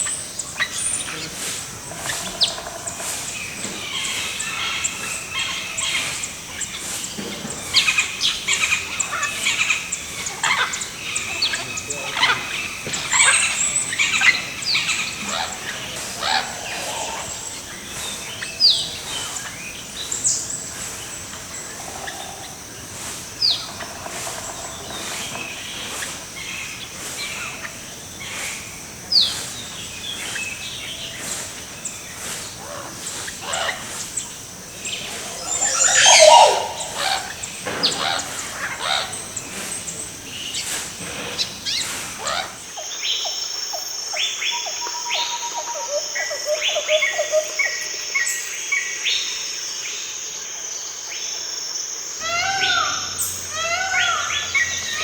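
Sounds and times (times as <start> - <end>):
forest birds calling and chirping: 0.0 - 55.0.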